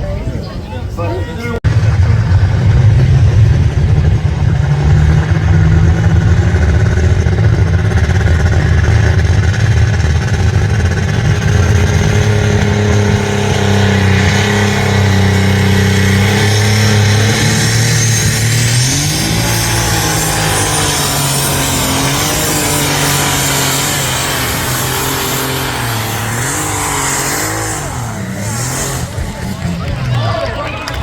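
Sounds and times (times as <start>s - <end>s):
tractor engine running: 1.6s - 31.0s.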